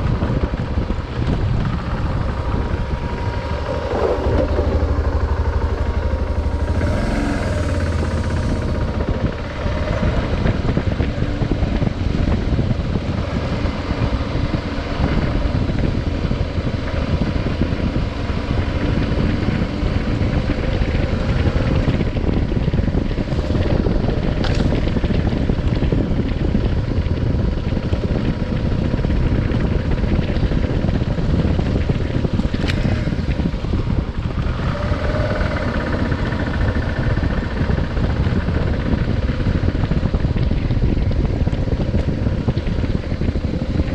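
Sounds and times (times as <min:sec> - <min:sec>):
motorcycle engine rumble: 0:00.0 - 0:43.9
wind buffeting microphone: 0:00.0 - 0:43.9.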